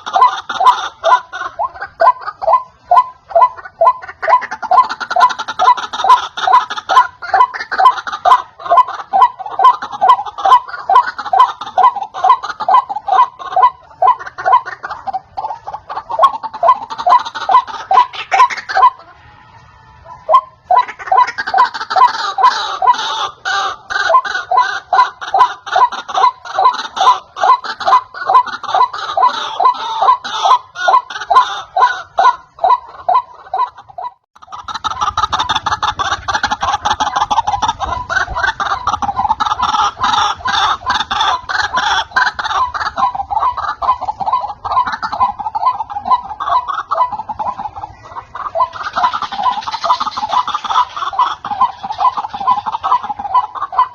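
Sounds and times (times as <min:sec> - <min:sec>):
waterhen calling harsh notes: 0:00.0 - 0:53.9.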